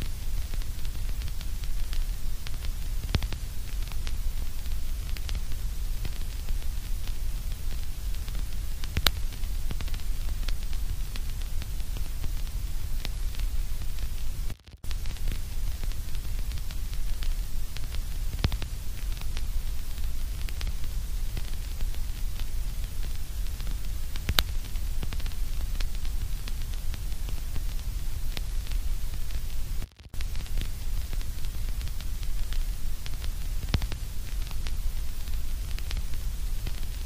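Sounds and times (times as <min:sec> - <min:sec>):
faint crackles and clicks: 0:00.0 - 0:37.0
white-noise static: 0:00.0 - 0:37.0.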